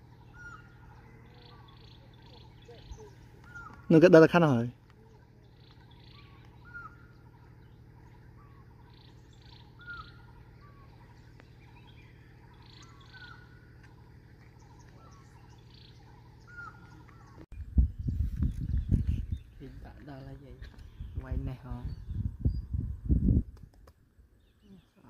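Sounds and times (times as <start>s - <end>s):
birds calling rising notes: 0.0s - 23.0s.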